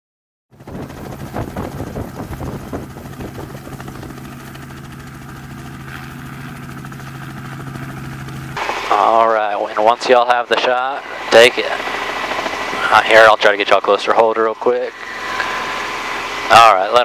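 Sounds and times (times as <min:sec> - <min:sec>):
helicopter hum: 0:00.5 - 0:17.0.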